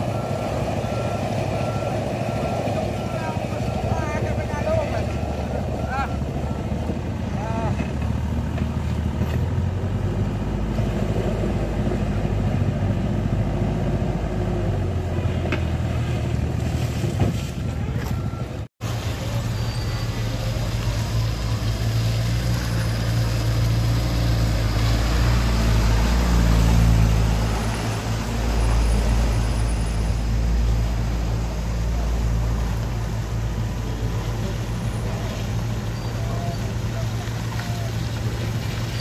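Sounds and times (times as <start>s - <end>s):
heavy vehicle engine droning: 0.0s - 39.0s.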